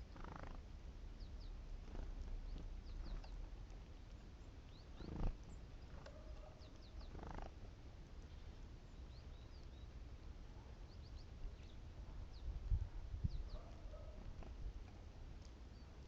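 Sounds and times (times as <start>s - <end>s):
birds chirping high: 0.0s - 16.0s.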